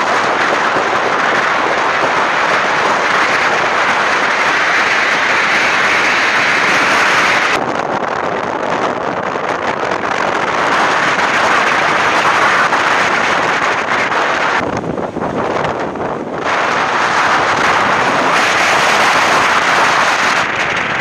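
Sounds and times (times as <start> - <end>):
vehicle road noise: 0.0 - 21.0
wind rushing across microphone: 0.0 - 21.0.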